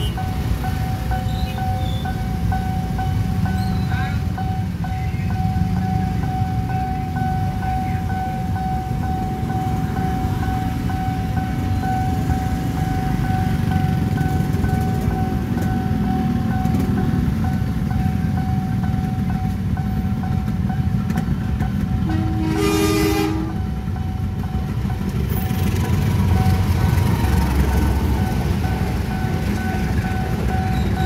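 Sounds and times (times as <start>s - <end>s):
level crossing alarm ringing: 0.0s - 21.0s, 21.6s - 31.0s.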